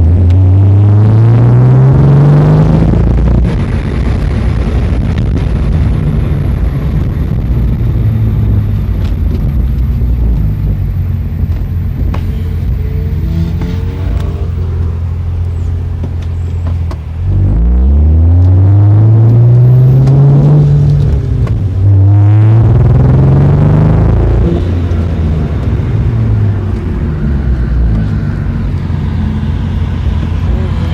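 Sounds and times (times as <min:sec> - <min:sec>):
car engine revving: 0:00.0 - 0:30.9
road noise: 0:00.0 - 0:30.9.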